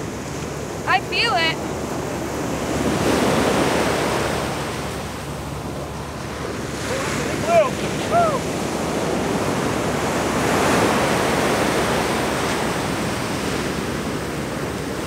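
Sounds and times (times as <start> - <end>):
ocean surf breaking on sand: 0.0 - 15.0.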